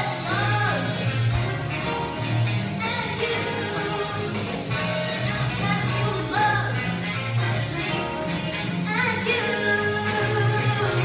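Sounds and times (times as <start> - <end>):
musical accompaniment: 0.0 - 11.0.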